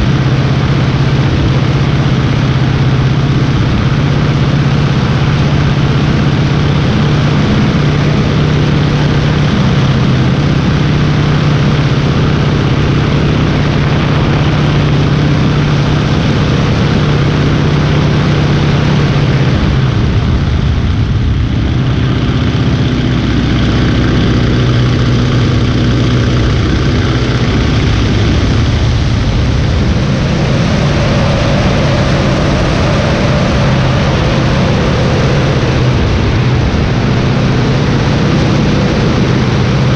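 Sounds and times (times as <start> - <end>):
propeller plane engine drone: 0.0 - 39.9
wind rushing over microphone: 0.0 - 39.9.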